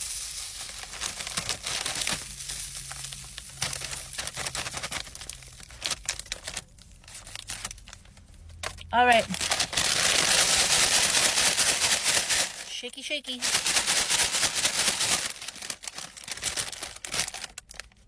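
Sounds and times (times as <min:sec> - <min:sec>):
paper bag rustling: 0:00.0 - 0:18.0
plastic packet crinkling: 0:00.0 - 0:18.0.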